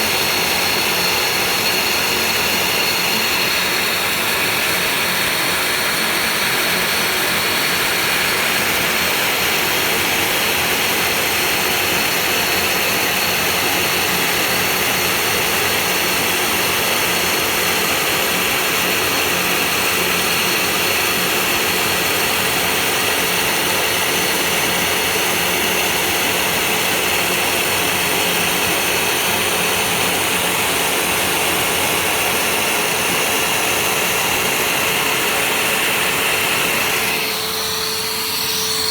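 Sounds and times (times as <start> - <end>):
vacuum dust extraction rushing: 0.0 - 38.9.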